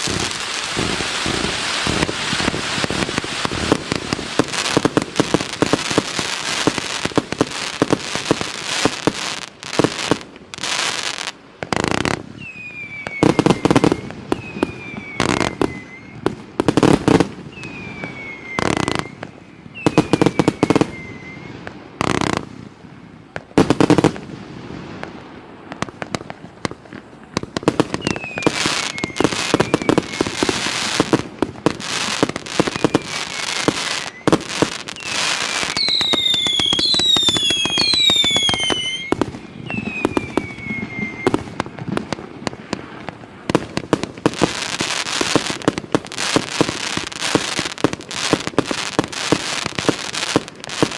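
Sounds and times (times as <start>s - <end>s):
falling firework whistles: 0.0s - 22.4s, 27.6s - 50.9s
fireworks bangs and crackle: 0.0s - 50.9s.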